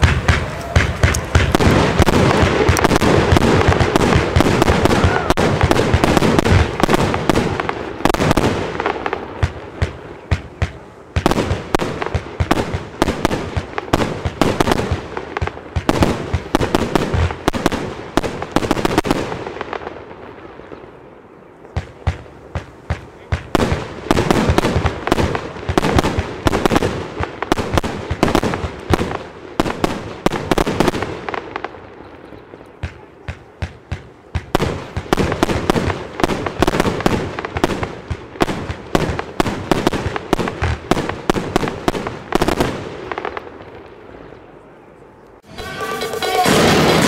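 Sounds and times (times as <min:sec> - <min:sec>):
firework shots and bursts: 0:00.0 - 0:20.8, 0:21.7 - 0:43.9, 0:45.6 - 0:47.0.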